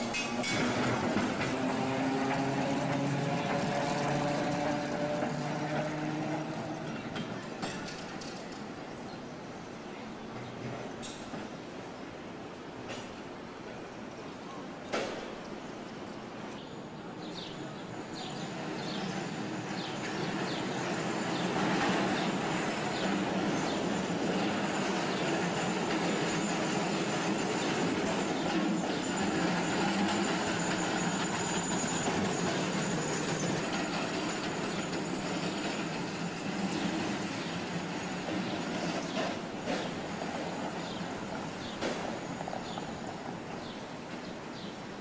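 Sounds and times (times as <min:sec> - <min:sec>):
streetcar wheels rumbling on rails: 0:00.0 - 0:45.0.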